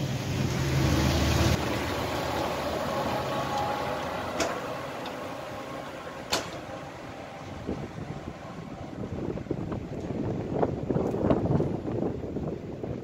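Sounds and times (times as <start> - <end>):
diesel engine drone: 0.0 - 13.0.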